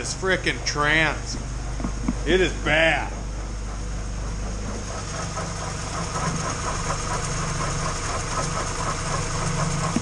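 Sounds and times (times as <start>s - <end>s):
car engine idling: 0.0s - 10.0s
transmission grinding rattle: 0.0s - 10.0s.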